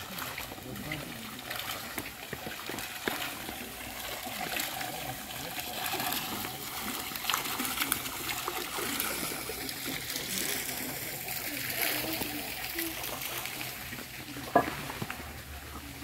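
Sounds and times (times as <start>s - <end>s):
running water trickling and splashing: 0.0s - 16.0s.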